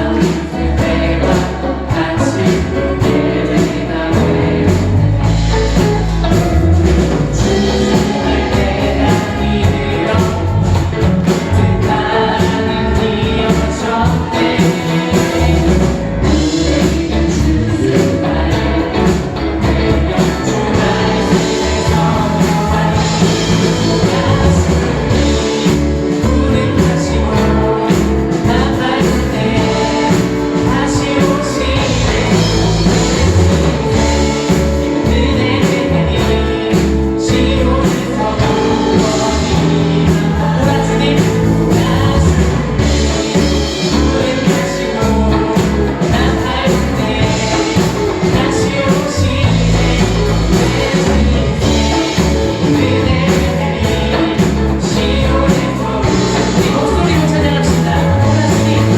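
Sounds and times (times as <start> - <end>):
band playing a steady beat: 0.0 - 58.9
group singing a worship song: 0.0 - 58.9.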